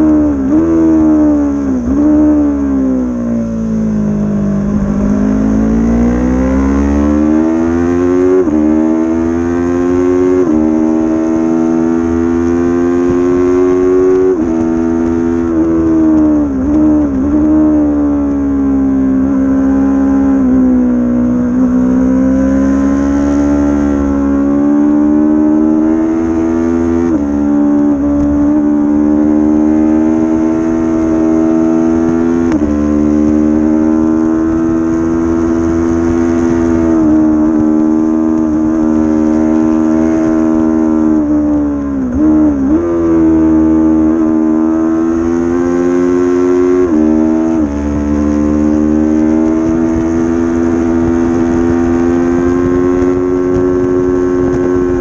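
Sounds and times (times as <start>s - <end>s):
motorcycle engine revving: 0.0s - 55.0s
wind and road rumble: 0.0s - 55.0s.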